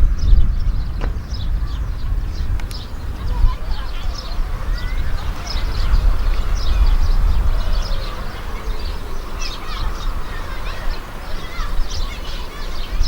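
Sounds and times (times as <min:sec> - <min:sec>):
birds chirping: 0:00.0 - 0:13.0
wind buffeting microphone: 0:00.0 - 0:13.0.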